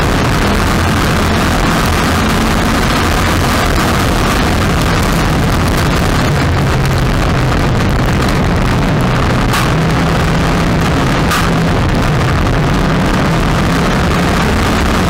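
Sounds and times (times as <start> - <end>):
dense rush of noise: 0.0 - 15.0
race car engine running hard: 0.0 - 15.0.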